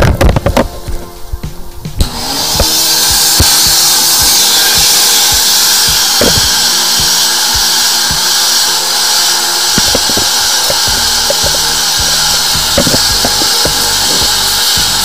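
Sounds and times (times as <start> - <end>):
low hum: 0.0 - 15.0
drain-cleaning machine motor whine: 2.0 - 15.0.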